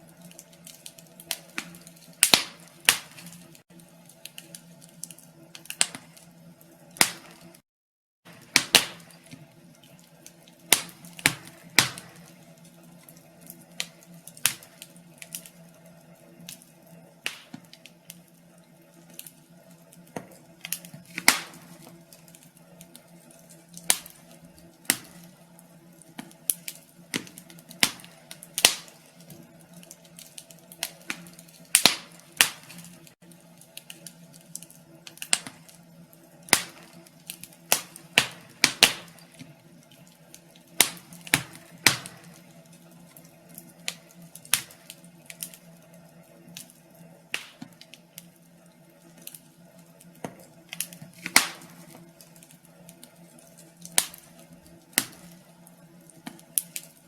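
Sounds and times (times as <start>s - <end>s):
wood fire crackling: 0.0s - 7.6s, 8.3s - 57.0s.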